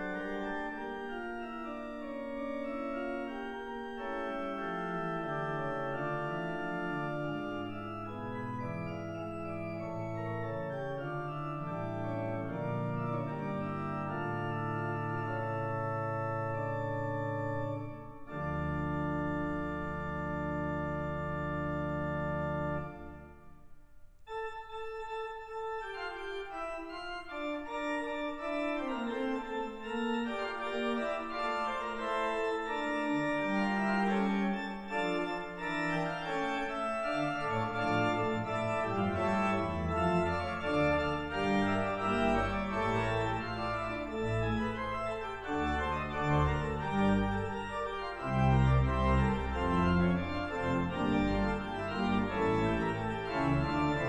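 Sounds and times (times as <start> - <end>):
pipe organ playing: 0.0 - 23.7, 24.3 - 54.0.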